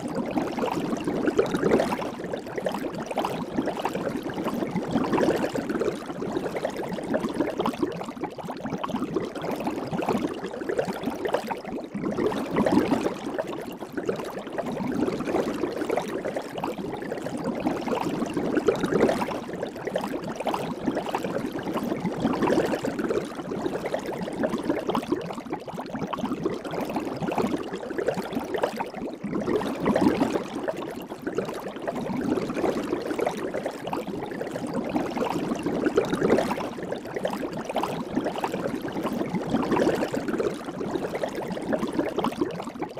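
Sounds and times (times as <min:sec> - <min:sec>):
soap bubbles fizzing and popping: 0:00.0 - 0:42.9.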